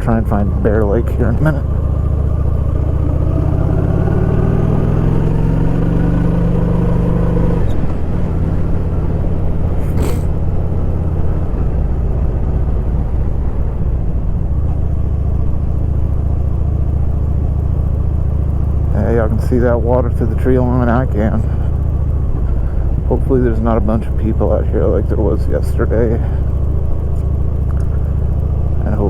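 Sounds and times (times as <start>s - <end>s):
vehicle engine accelerating: 0.0s - 29.0s.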